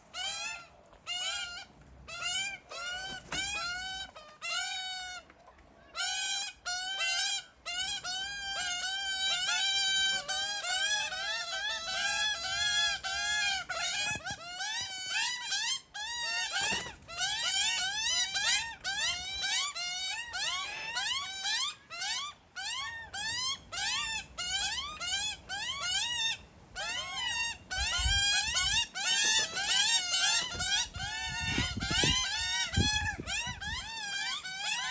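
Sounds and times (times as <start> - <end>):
fledgling birds begging cries: 0.0 - 34.9.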